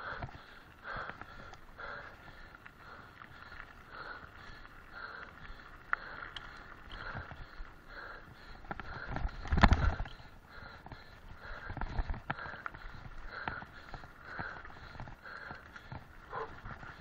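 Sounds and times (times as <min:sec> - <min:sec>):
mountain bike rattling over dirt: 0:00.0 - 0:17.0.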